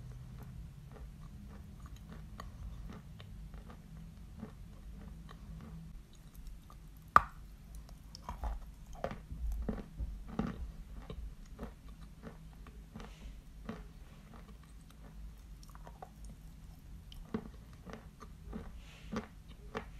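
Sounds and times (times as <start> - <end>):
crunching and chewing chalk: 0.0 - 19.9.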